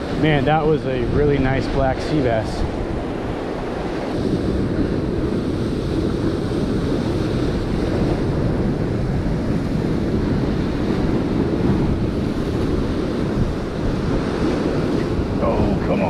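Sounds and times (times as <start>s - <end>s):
ocean surf on rocks: 0.0s - 16.0s
wind rumbling on microphone: 0.0s - 16.0s.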